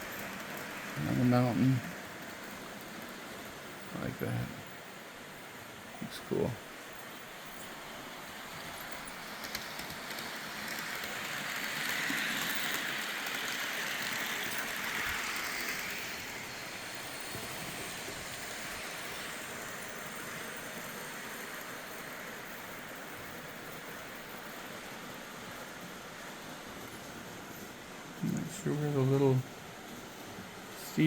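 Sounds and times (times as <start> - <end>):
model train wheels rolling on track: 0.0 - 31.0.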